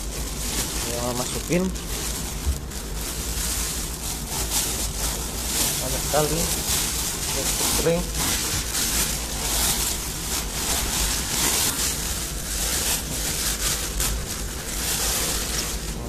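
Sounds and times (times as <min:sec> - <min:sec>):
fabric rustling and rubbing: 0:00.0 - 0:16.0
steady low hum: 0:00.0 - 0:16.0.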